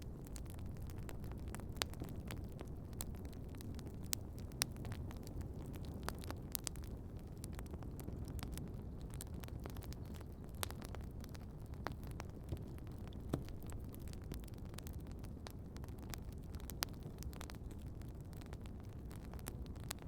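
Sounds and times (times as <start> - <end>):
campfire crackling: 0.0 - 20.0
fire pops and snaps: 0.0 - 20.0.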